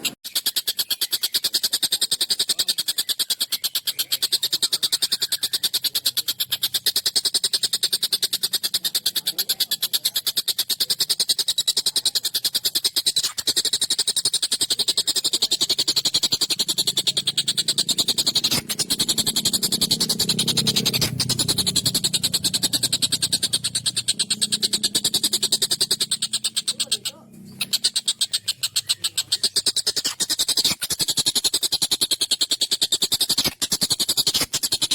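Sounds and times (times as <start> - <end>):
kingfisher rattling call: 0.0 - 34.9.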